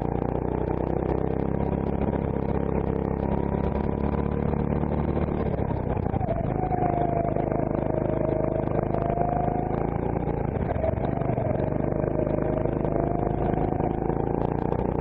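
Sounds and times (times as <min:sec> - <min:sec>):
go-kart engine running: 0:00.0 - 0:15.0.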